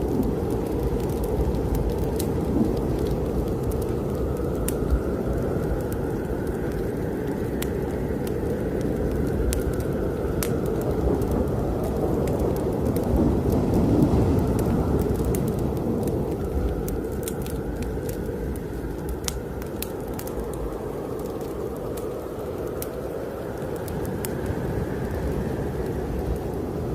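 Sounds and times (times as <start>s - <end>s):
strong wind blowing: 0.0s - 26.9s
wood fire crackling: 0.0s - 26.9s.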